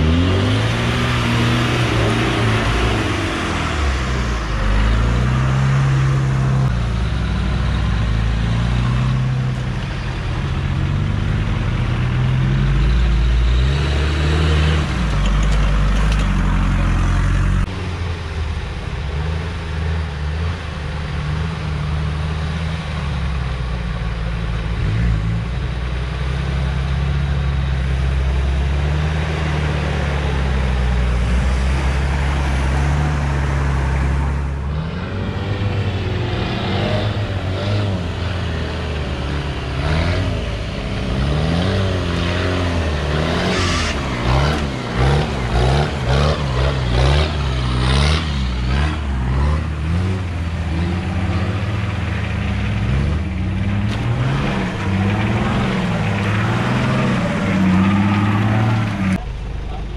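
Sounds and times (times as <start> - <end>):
off-road engine revving: 0.0 - 59.9.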